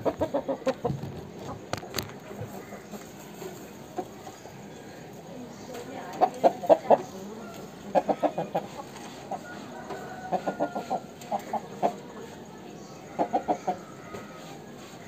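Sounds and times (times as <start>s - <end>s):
rooster clucking: 0.0s - 4.6s, 6.0s - 12.4s, 13.0s - 15.0s.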